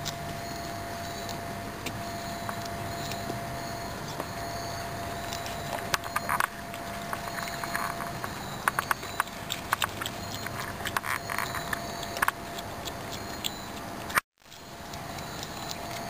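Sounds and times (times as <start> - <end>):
animal chewing acorn shells: 0.0 - 16.0.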